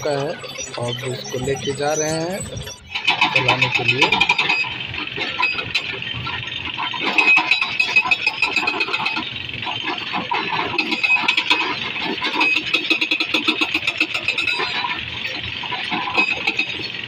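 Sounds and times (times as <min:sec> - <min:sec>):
excavator engine running: 0:00.0 - 0:17.0
hydraulic breaker hammering rock: 0:02.9 - 0:17.0.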